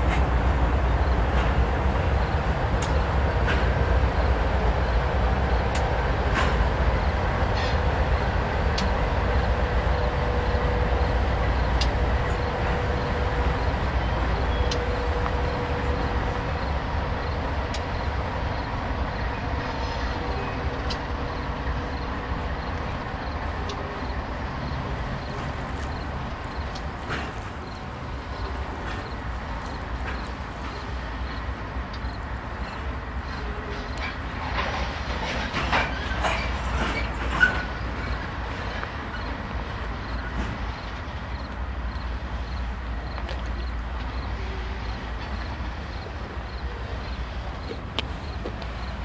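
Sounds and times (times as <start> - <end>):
freight cars rolling: 0.0 - 49.0
locomotive engine rumble: 0.0 - 49.0.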